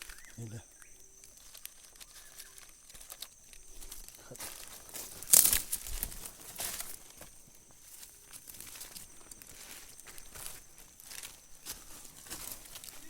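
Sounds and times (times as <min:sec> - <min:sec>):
dry leaves crackling and rustling: 0:00.0 - 0:13.0.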